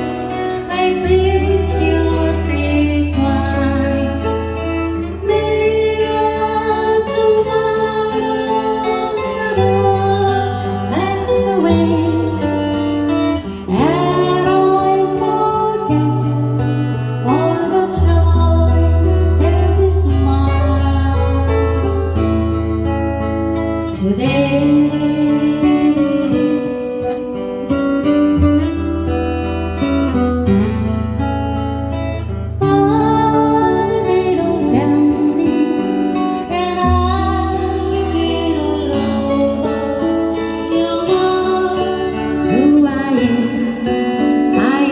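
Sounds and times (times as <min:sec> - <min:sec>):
person singing: 0:00.0 - 0:22.7, 0:23.8 - 0:27.4, 0:32.6 - 0:44.9
guitar accompaniment: 0:00.0 - 0:44.9.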